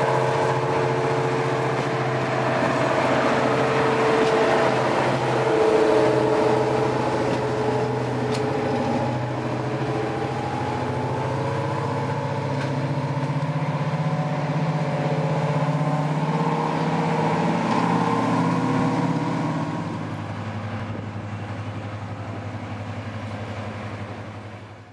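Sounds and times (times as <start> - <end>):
diesel locomotive engine droning: 0.0 - 24.9.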